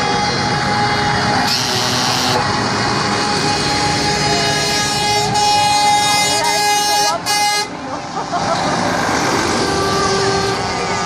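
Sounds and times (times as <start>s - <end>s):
truck air horn blast: 0.0s - 7.8s, 9.2s - 11.0s.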